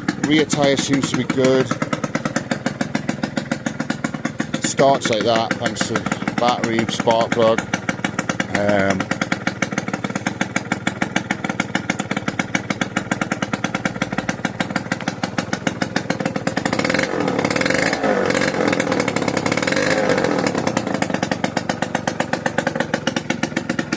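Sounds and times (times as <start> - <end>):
scooter engine putter: 0.0 - 23.9.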